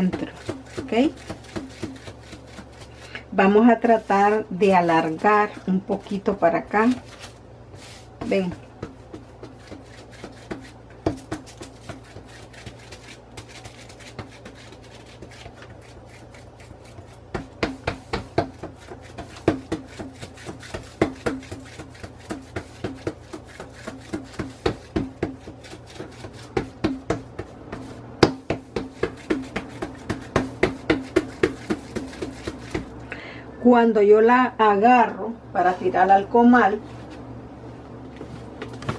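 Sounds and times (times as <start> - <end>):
hand patting dough: 0.0 - 33.0, 38.1 - 38.9.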